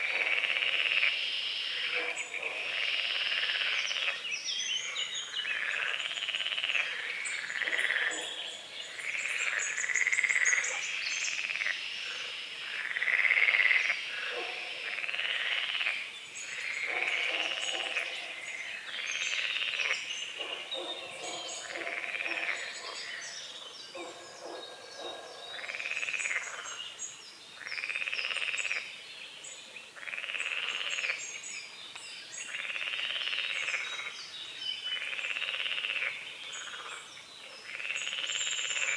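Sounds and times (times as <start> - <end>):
frogs croaking: 0.0 - 38.9
small birds chirping faintly: 0.0 - 38.9.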